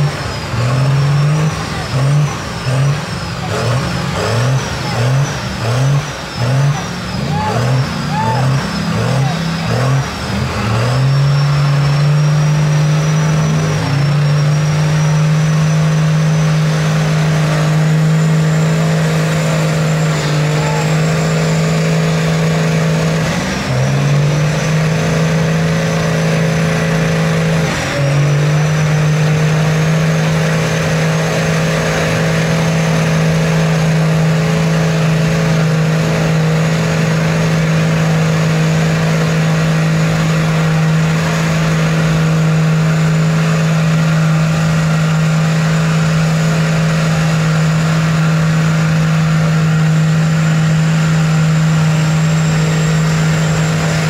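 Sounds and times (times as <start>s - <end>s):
tires spinning in mud: 0.0s - 54.0s
truck engine at high revs: 0.0s - 54.0s.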